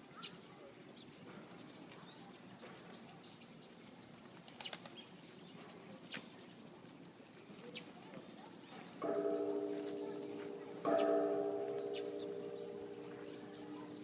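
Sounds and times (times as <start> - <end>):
faint outdoor background: 0.0 - 14.0
small birds chirping: 0.0 - 14.0.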